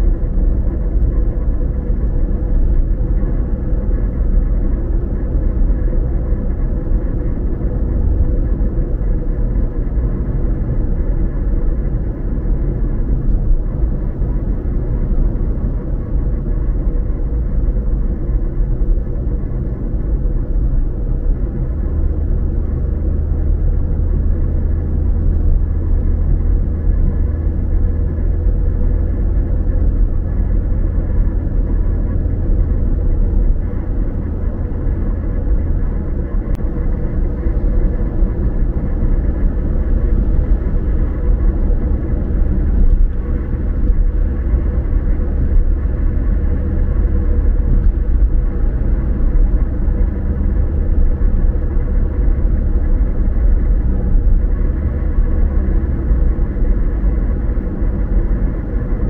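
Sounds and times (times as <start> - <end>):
car road rumble inside cabin: 0.0 - 59.0
faint steady hum: 0.0 - 59.0.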